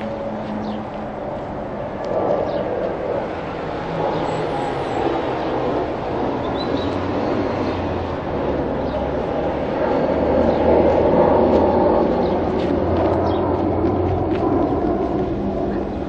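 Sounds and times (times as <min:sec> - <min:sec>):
low engine drone: 0:00.0 - 0:16.0
road traffic passing: 0:00.0 - 0:16.0.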